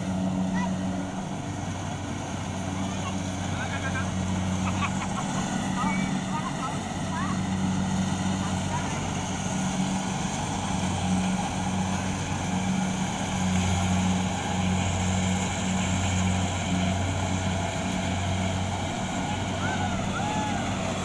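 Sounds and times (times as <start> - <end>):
combine harvester engine droning: 0.0 - 21.0.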